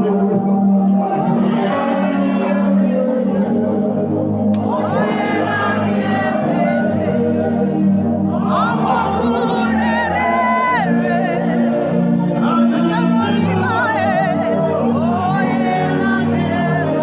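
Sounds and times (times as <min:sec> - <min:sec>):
held keyboard accompaniment: 0:00.0 - 0:17.0
person singing: 0:00.0 - 0:17.0.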